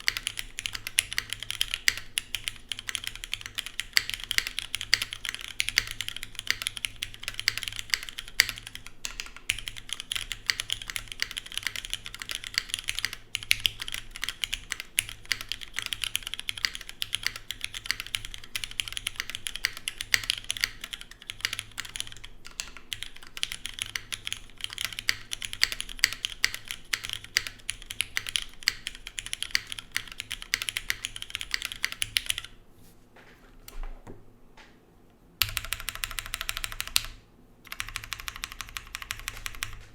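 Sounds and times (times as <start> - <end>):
fast typing on mechanical keyboard: 0.0 - 32.6, 35.4 - 39.9.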